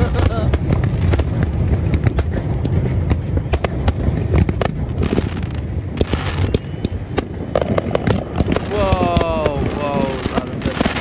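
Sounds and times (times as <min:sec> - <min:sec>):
low rumble of explosions: 0:00.0 - 0:11.0.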